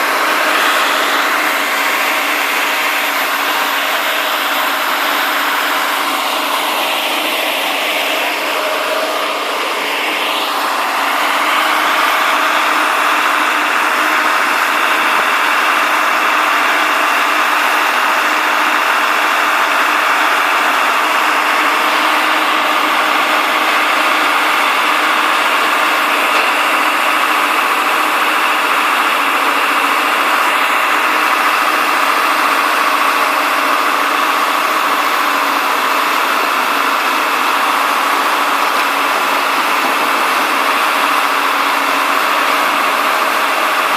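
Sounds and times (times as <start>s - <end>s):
drill rig diesel engine running: 0.0s - 43.9s.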